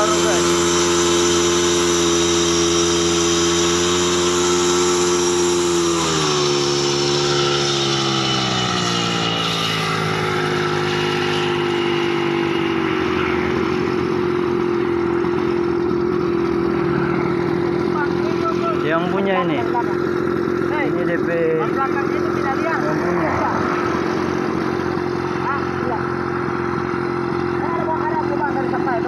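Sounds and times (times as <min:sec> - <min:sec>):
light aircraft engine running: 0:00.0 - 0:29.0.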